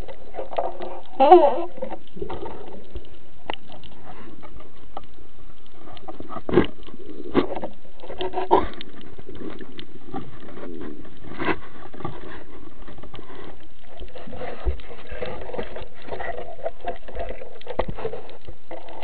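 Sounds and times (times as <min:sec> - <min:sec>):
muffled underwater hiss: 0:00.0 - 0:19.0.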